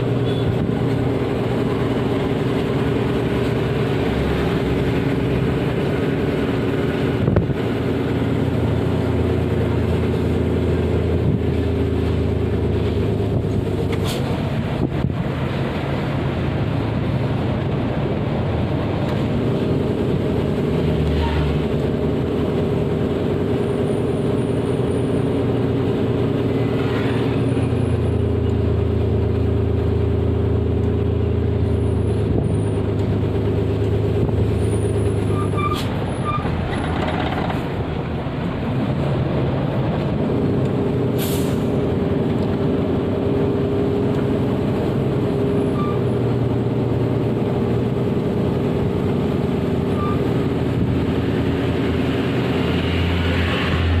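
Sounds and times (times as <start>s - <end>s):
vehicle engine with road noise: 0.0s - 54.0s.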